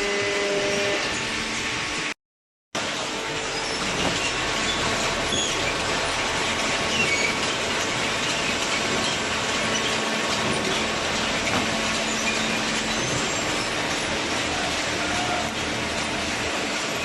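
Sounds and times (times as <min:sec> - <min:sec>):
hydraulic baler running: 0:02.8 - 0:17.0.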